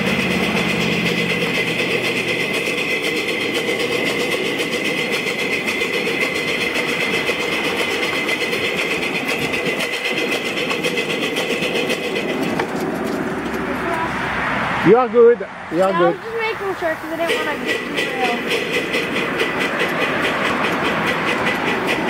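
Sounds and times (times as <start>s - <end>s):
steam locomotive chuffing: 0.0s - 15.0s, 15.7s - 22.0s.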